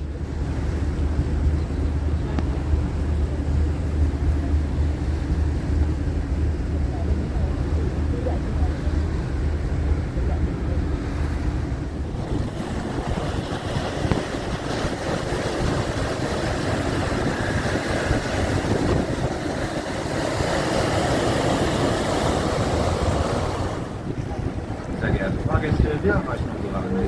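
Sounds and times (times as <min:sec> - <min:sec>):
boat engine rumble: 0:00.0 - 0:27.0
rush of wind and water: 0:00.0 - 0:27.0
wind on microphone: 0:00.0 - 0:27.0.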